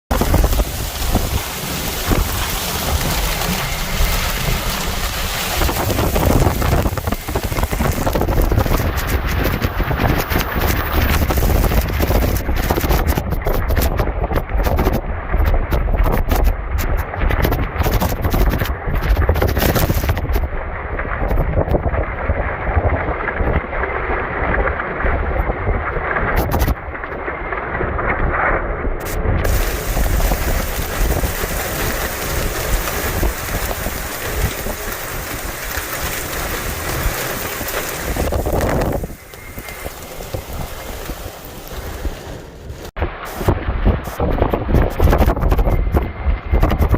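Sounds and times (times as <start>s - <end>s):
wind blowing against microphone: 0.1s - 23.6s, 29.0s - 46.9s.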